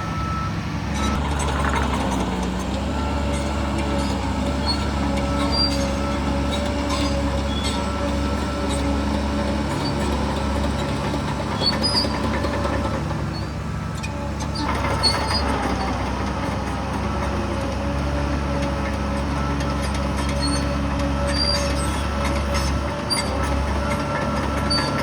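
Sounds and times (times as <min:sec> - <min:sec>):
diesel machinery running: 0:00.0 - 0:25.0.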